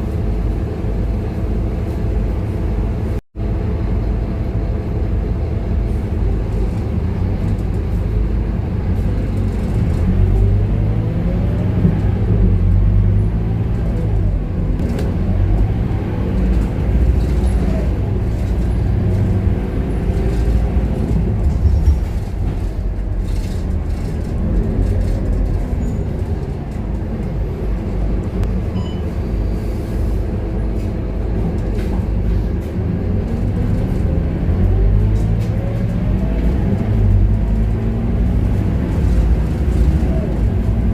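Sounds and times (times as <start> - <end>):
bus engine rumble: 0.0 - 40.9.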